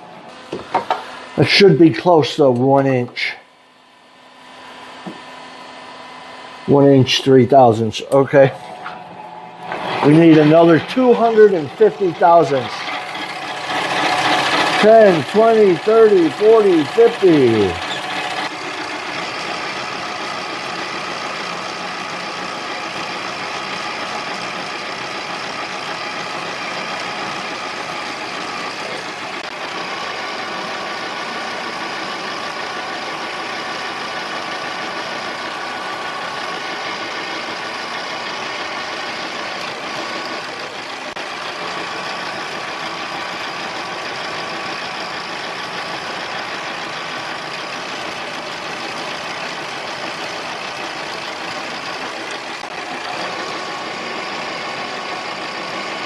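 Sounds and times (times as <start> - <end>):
lathe whining: 8.4 - 56.0.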